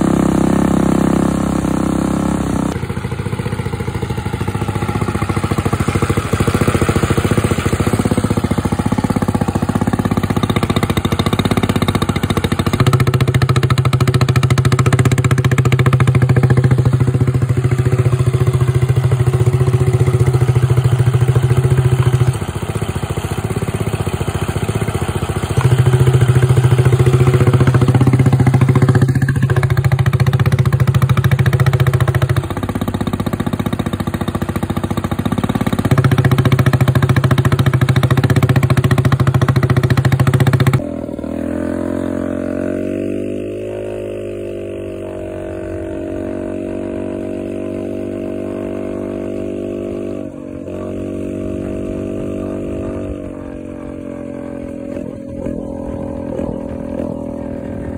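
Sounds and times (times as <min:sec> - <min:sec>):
motorcycle exhaust revving: 0:00.0 - 0:57.9.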